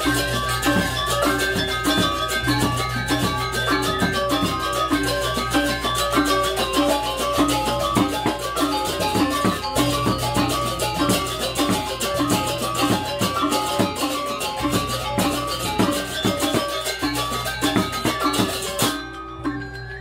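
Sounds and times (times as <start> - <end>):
drums: 0.0 - 20.0
gamelan music: 0.0 - 20.0.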